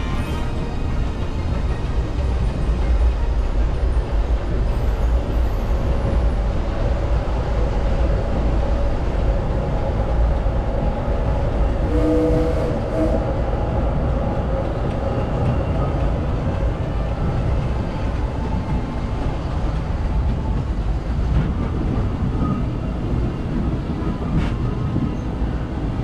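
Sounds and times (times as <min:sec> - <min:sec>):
train cars rumbling on rails: 0:00.0 - 0:26.0.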